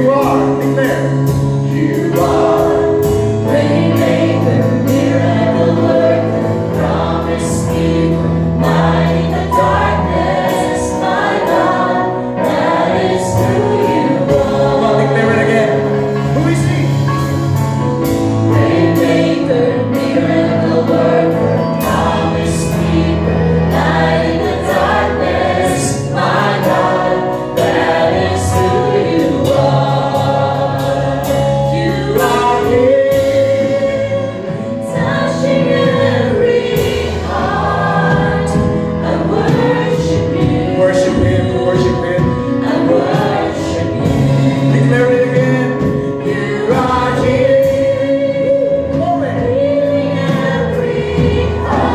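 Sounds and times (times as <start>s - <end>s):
choir singing gospel song: 0.0s - 51.9s
instrumental accompaniment with beat: 0.0s - 51.9s.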